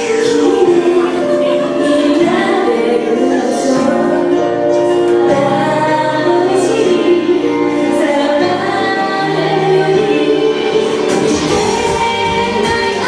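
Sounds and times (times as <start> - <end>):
instrumental backing music: 0.0 - 13.0
woman singing into microphone: 0.0 - 13.0.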